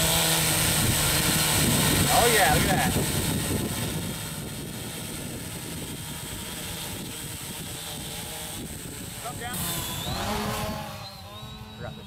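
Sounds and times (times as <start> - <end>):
drone motors humming: 0.0 - 12.0.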